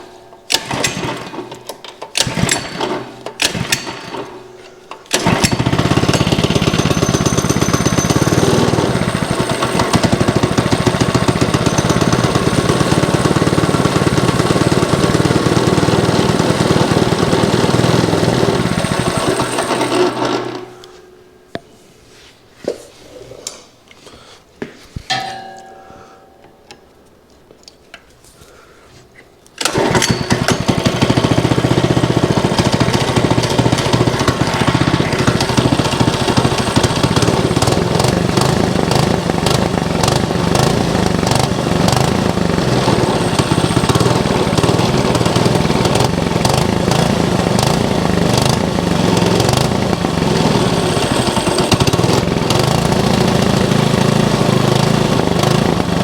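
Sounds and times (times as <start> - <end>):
small gasoline engine running: 0.5 - 1.6, 2.2 - 4.4, 5.1 - 20.8, 29.6 - 56.0.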